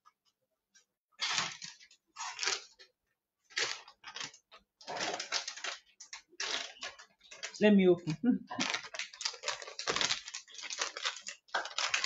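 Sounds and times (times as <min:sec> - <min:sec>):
plastic bag crinkling: 0:01.2 - 0:12.0.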